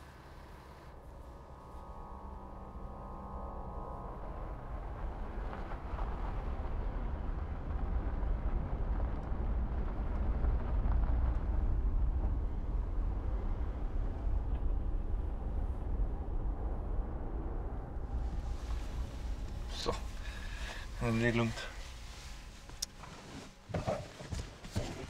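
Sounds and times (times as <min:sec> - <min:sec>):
car engine rumble: 0:00.0 - 0:25.0.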